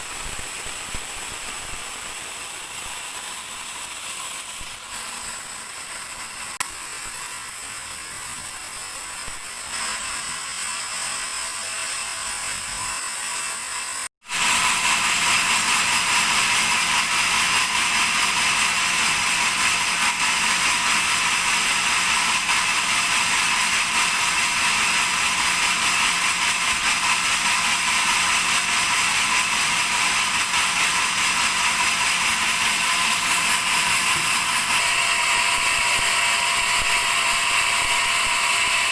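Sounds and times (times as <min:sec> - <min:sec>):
bandsaw cutting log: 0:00.0 - 0:38.9.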